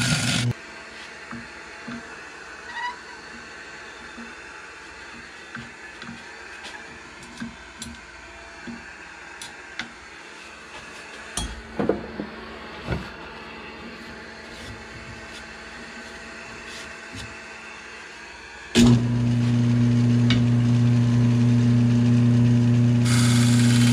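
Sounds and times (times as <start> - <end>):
workshop hum: 0.0 - 23.9.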